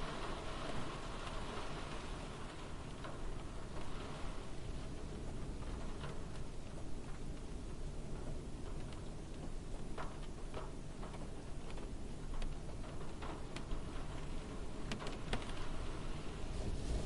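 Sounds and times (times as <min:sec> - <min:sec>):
low hiss and rumble: 0:00.0 - 0:17.0
raindrops ticking on car roof: 0:00.0 - 0:17.0.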